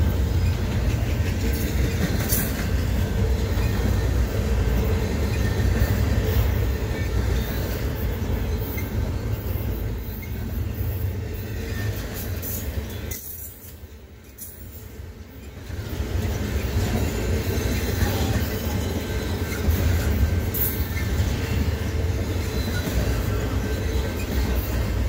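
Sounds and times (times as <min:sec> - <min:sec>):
freight train rolling past: 0:00.0 - 0:25.0
steel wheels clattering on rail: 0:00.0 - 0:25.0.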